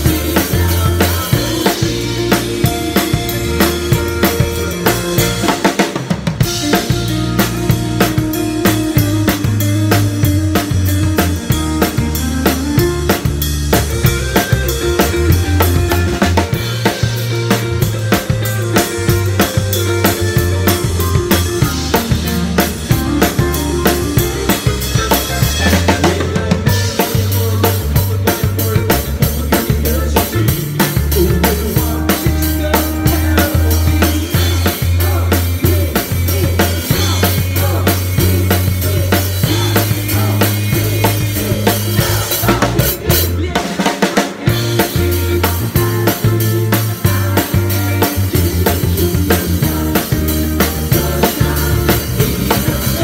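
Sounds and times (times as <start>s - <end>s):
bass line: 0.0s - 53.0s
drum kit beat: 0.0s - 53.0s.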